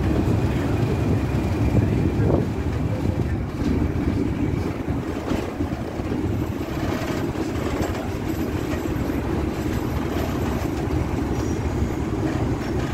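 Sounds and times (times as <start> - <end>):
diesel locomotive engine running: 0.0 - 12.9
train wheels on rails: 0.0 - 12.9.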